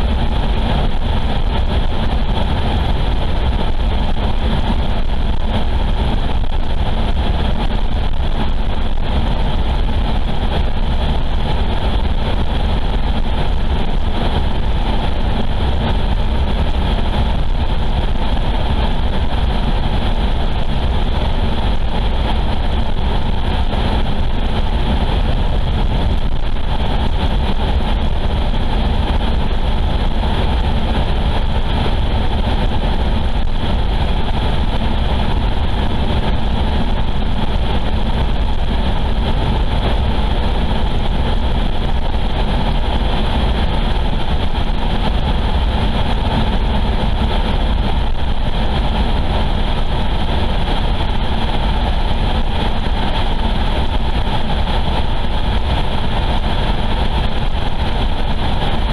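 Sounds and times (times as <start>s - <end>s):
car road and engine noise: 0.0s - 58.9s.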